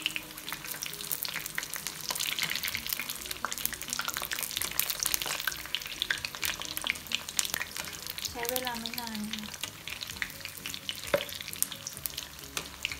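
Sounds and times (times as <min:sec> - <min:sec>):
deep-frying sizzle: 0:00.0 - 0:12.9.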